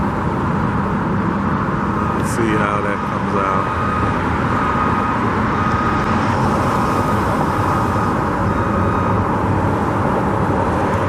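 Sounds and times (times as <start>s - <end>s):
freeway traffic noise: 0.0s - 11.0s.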